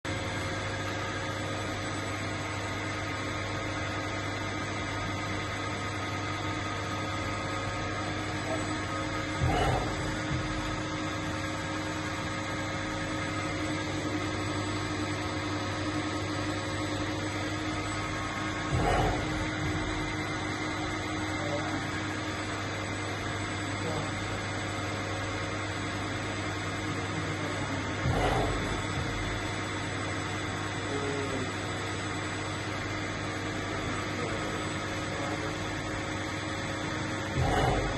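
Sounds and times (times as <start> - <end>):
milling machine humming and whining: 0.1 - 37.9.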